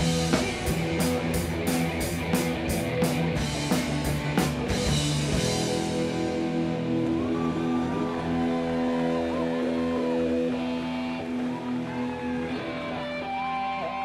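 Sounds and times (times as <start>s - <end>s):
bent guitar notes: 0.0s - 14.0s
electric guitars and bass chords: 0.0s - 14.0s.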